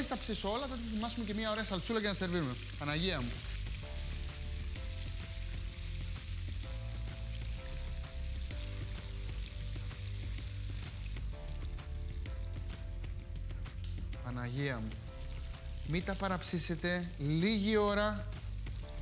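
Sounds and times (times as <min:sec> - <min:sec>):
squid deep-frying in hot oil: 0:00.0 - 0:19.0.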